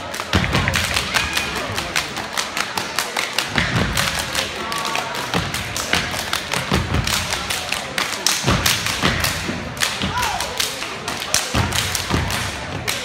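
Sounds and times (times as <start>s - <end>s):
sharp hand claps: 0.0s - 13.0s.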